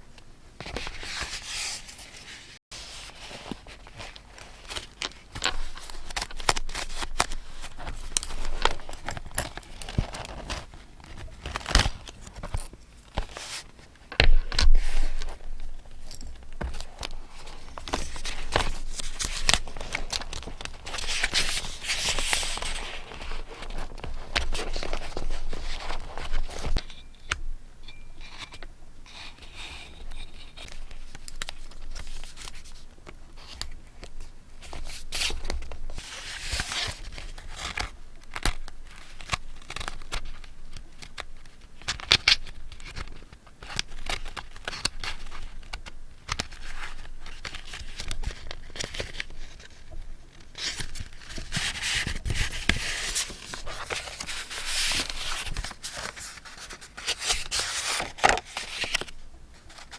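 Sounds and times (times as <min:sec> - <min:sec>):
paper rustling and crinkling: 0:00.6 - 0:27.1, 0:28.2 - 0:59.9.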